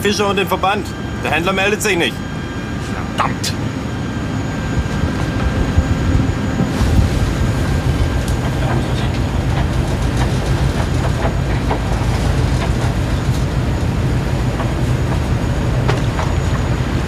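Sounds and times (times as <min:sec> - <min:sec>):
ship engines rumbling: 0:00.0 - 0:17.0.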